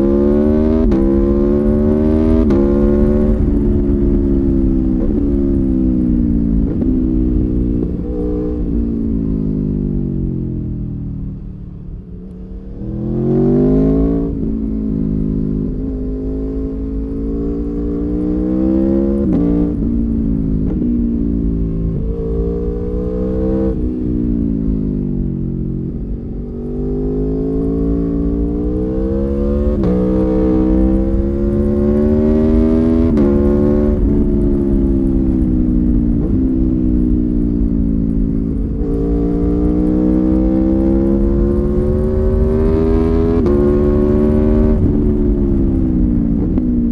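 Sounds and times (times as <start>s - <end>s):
motorcycle engine revving through gears: 0.0s - 46.9s.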